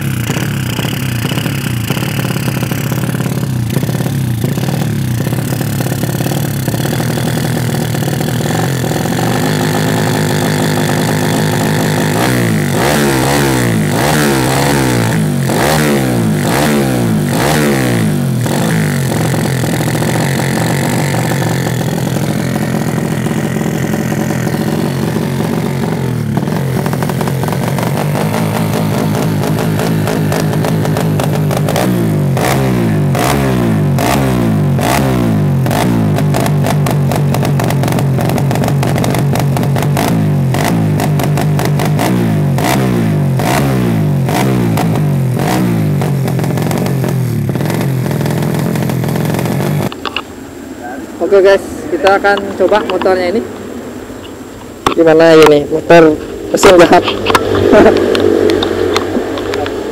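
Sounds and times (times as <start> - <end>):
motorcycle engine idling and revving: 0.0 - 50.6, 51.2 - 59.9.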